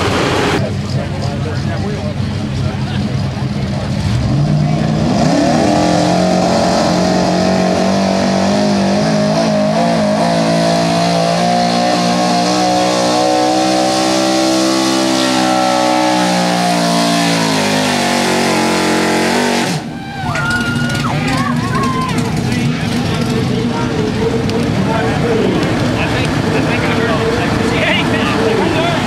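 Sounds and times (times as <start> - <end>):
truck engine at full throttle: 0.0 - 29.0.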